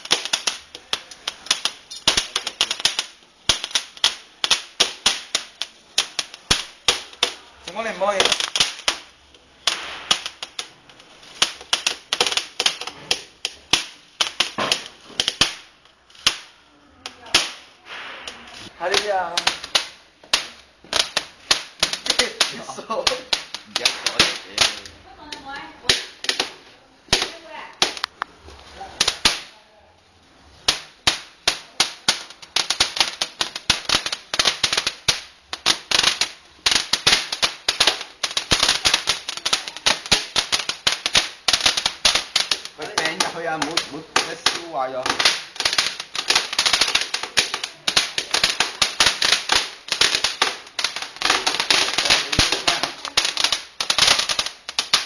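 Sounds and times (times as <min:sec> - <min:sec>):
firework hiss: 0:00.0 - 0:29.6, 0:30.4 - 0:55.0
firework crackling and popping: 0:00.0 - 0:55.0.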